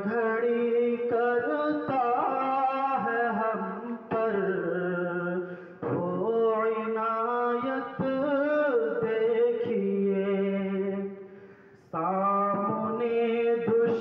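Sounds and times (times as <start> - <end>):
solo voice singing: 0.0 - 11.2, 11.9 - 14.0.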